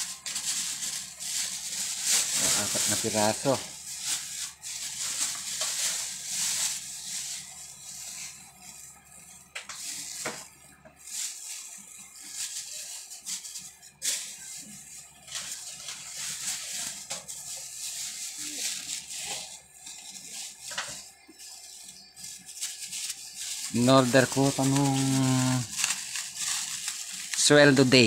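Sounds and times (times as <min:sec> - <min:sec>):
plastic wrapping crinkling: 0:00.0 - 0:28.0.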